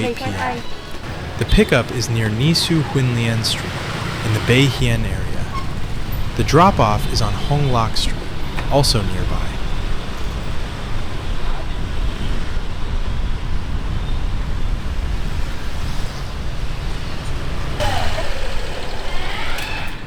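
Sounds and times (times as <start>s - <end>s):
engine revving: 0.0s - 20.0s
motorbike traffic rumble: 0.0s - 20.0s.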